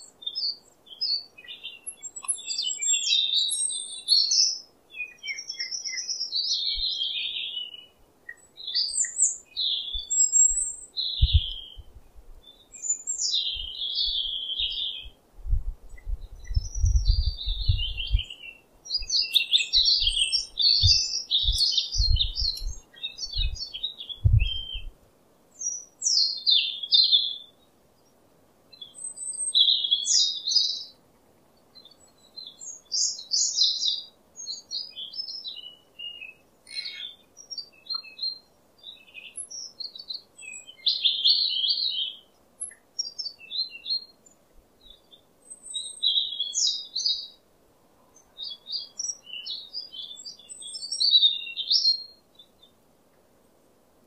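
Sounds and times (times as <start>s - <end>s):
small birds chirping: 0.0s - 53.7s.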